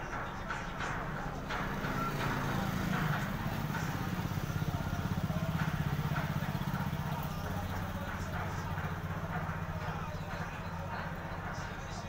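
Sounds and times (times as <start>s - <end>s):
engine running with low throb: 0.0s - 12.0s
motorcycle passing: 0.0s - 12.0s.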